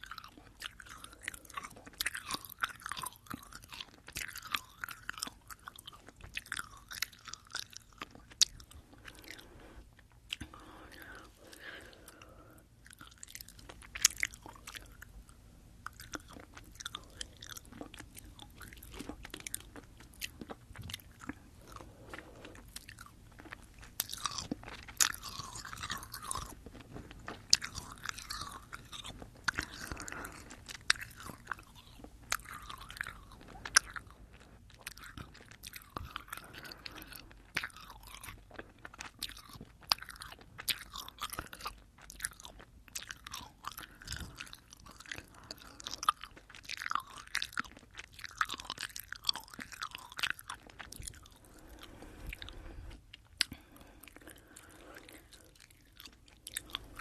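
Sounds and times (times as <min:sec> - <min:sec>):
chewing gummy candies: 0:00.0 - 0:57.0.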